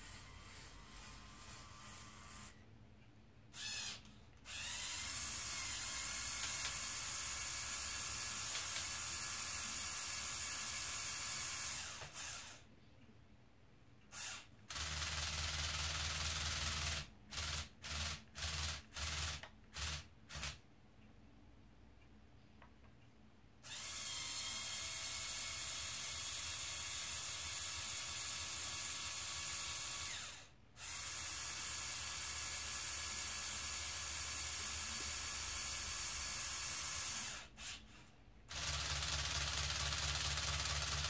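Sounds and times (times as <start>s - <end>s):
small electric motors whirring: 0.0s - 2.6s, 3.5s - 12.6s, 14.1s - 20.6s, 23.6s - 41.0s.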